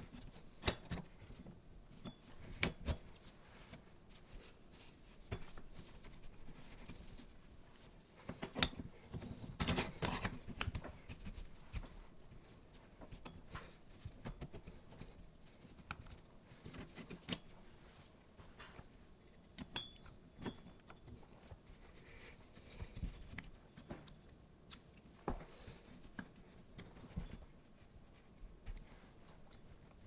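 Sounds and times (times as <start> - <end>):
parts and tools being handled: 0.0 - 30.0.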